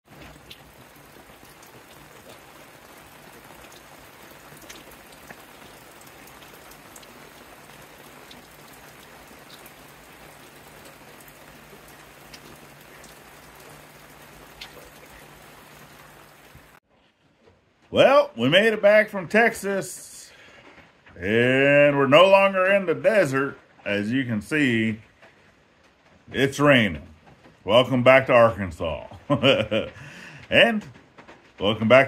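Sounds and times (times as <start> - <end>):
raindrops ticking: 0.0 - 16.8, 17.8 - 32.0
steady rain hiss: 0.0 - 16.8, 17.8 - 32.0.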